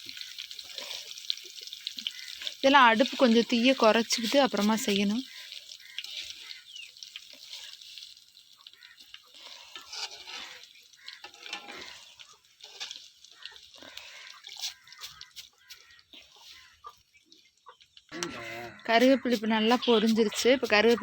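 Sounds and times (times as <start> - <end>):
leaves sizzling in hot oil: 0.0 - 21.0.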